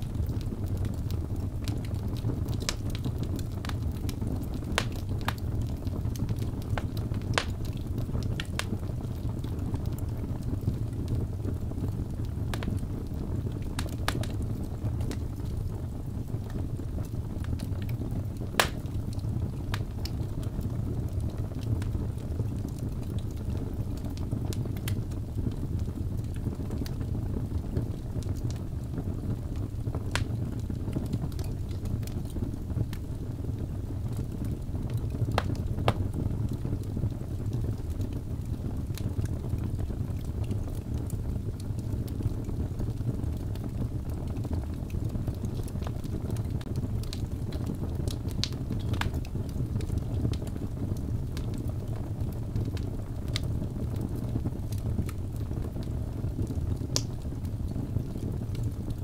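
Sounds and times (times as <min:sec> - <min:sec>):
fire flames rumbling: 0:00.0 - 0:59.0
logs popping and crackling: 0:00.0 - 0:59.0.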